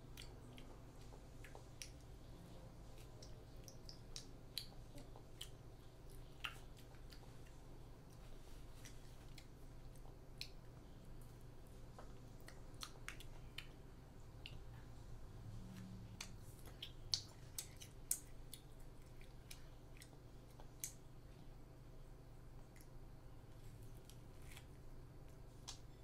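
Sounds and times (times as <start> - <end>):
child chewing with mouth clicks: 0.0 - 21.6, 22.3 - 26.0.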